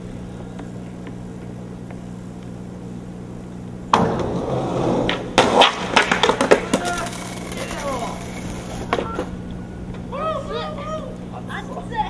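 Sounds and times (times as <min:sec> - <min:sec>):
low hum: 0:00.0 - 0:12.0
skateboard wheels rumbling on steel: 0:00.0 - 0:12.0.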